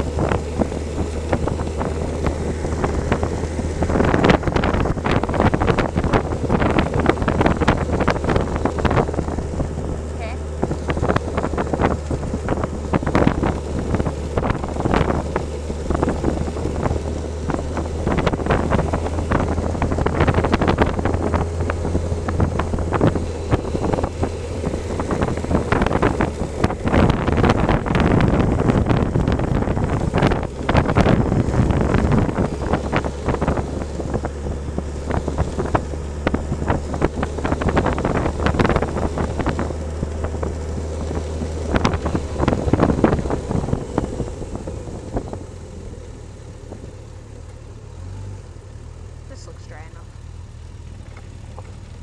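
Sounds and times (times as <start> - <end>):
wind buffeting microphone: 0.0 - 47.0
steady low drone: 0.0 - 50.5.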